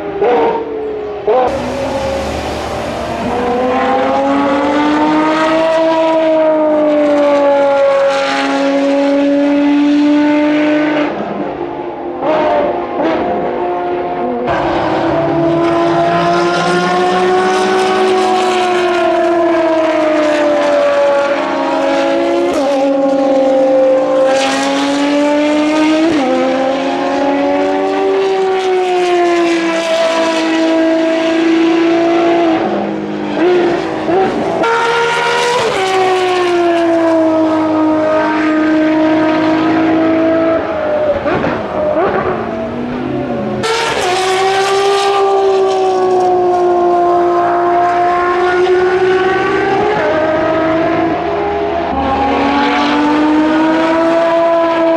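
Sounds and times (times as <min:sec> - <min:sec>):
engine blips on downshifts: 0:00.0 - 0:54.9
racing car engines screaming: 0:00.0 - 0:54.9.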